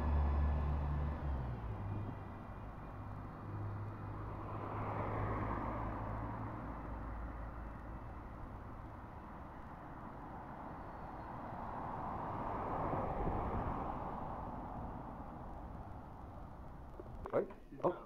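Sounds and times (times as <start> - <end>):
steady traffic hum: 0.0 - 18.0.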